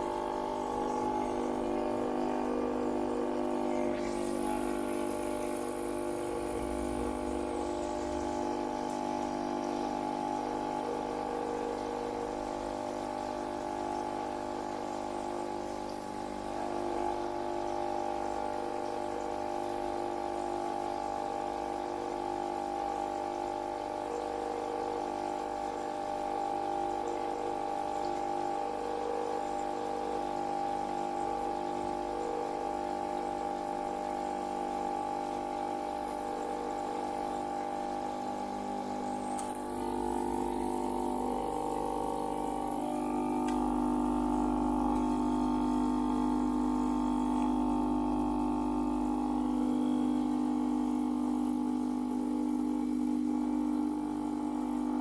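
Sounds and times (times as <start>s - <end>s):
espresso machine pump humming: 0.0s - 55.0s
water stream into plastic tub: 0.0s - 55.0s.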